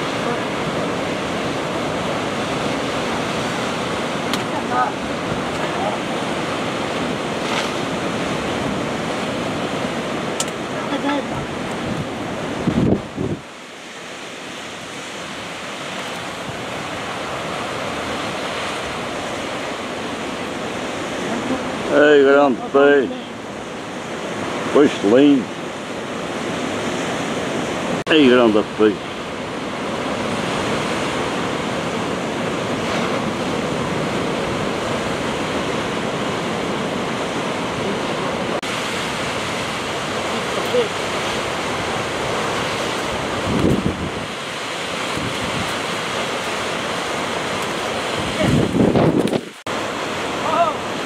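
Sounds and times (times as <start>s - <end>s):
surf breaking on rocks: 0.0s - 51.0s.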